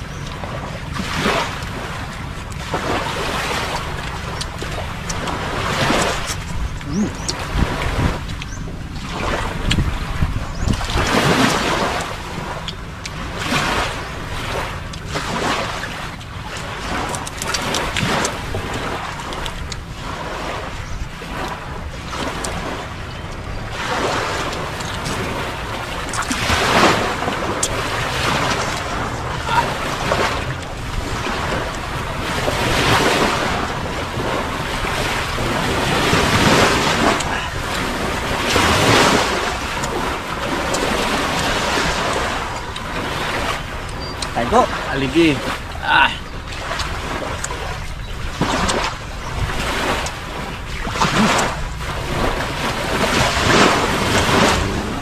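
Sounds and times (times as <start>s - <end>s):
wind blowing across microphone: 0.0s - 55.0s
surf washing onto beach: 0.8s - 55.0s.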